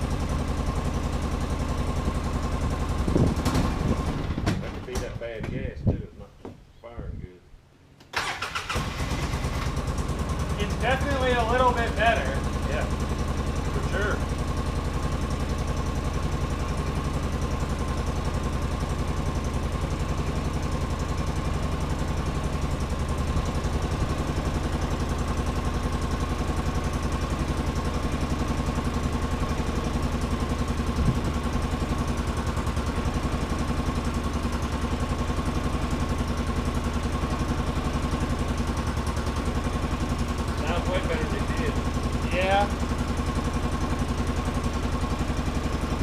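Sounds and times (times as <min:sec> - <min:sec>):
engine idling roughly: 0:00.0 - 0:05.6, 0:08.2 - 0:46.0.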